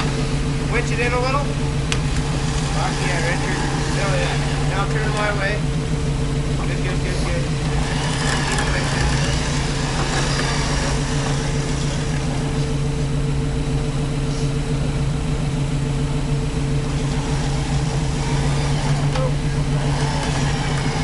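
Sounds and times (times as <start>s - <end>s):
truck engine idling low: 0.0s - 21.0s.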